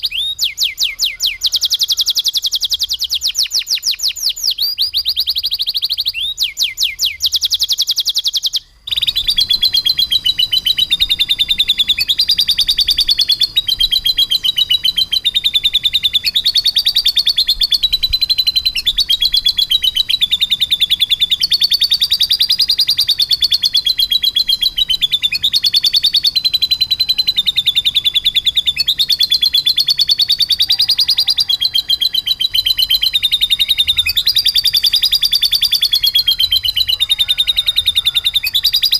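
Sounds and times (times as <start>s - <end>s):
canary singing rolling trill: 0.0s - 38.9s.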